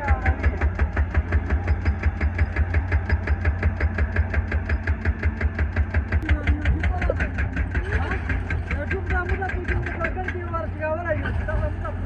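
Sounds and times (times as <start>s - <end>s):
excavator engine knocking: 0.0s - 12.0s.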